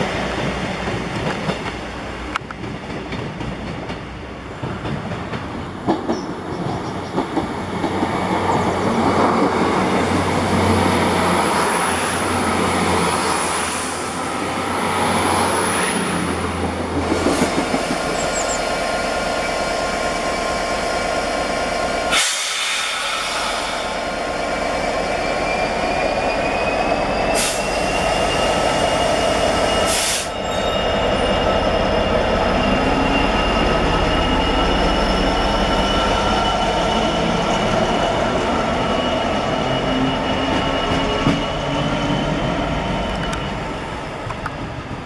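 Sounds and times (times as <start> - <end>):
diesel locomotive engine: 0.0 - 45.0
wheels squealing on rails: 6.0 - 44.3.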